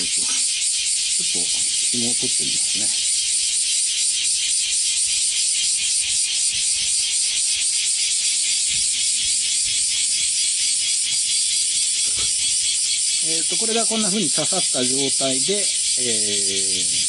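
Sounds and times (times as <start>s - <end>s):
cicadas chirring: 0.0s - 17.0s.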